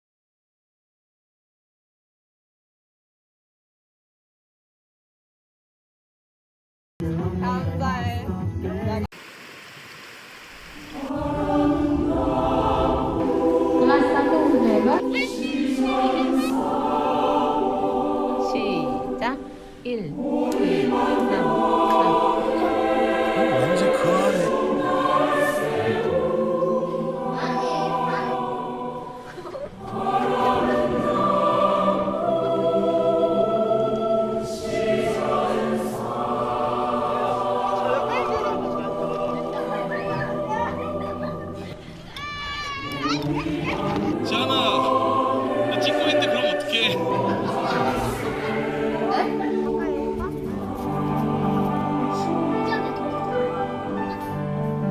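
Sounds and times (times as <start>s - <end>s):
group of voices singing: 11.0s - 54.9s.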